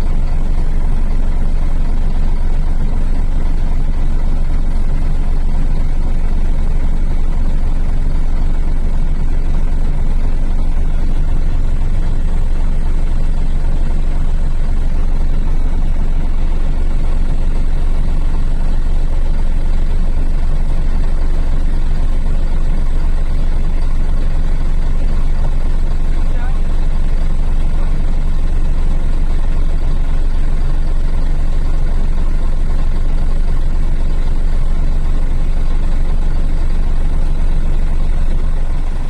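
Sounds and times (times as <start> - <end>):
diesel lorry engine droning: 0.0 - 39.0.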